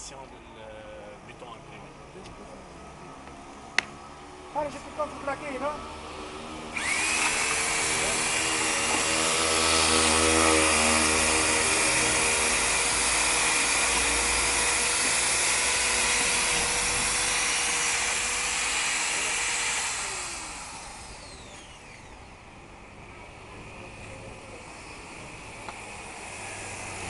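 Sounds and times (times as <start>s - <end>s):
background noise: 0.0s - 27.0s
electric drill mixing paddle whining: 4.7s - 27.0s.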